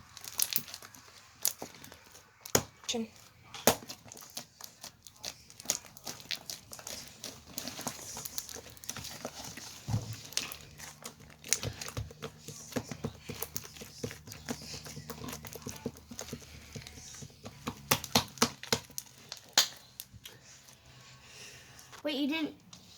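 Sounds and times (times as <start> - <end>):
slime squished by hand: 0.0 - 20.8.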